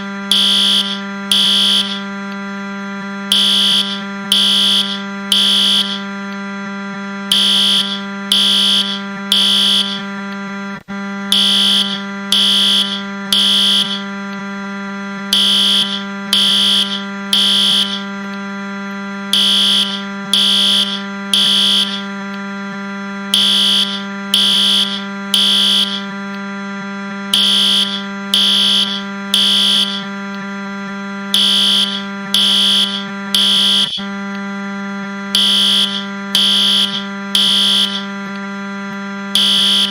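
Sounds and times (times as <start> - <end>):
fire alarm beeping: 0.0 - 39.9
low electronic buzz: 0.0 - 39.9.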